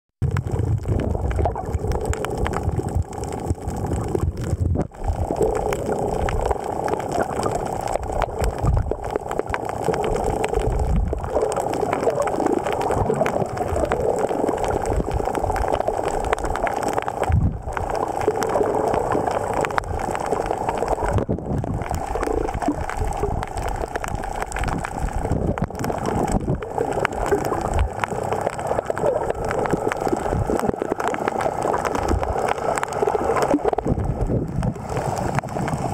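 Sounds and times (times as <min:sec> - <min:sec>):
underwater water churning: 0:00.2 - 0:35.9.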